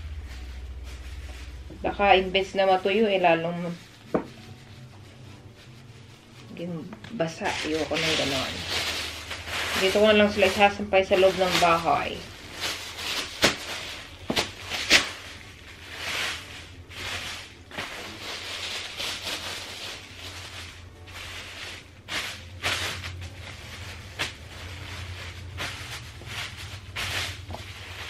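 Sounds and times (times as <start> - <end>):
plastic bags rustling and crinkling: 0.0 - 28.0.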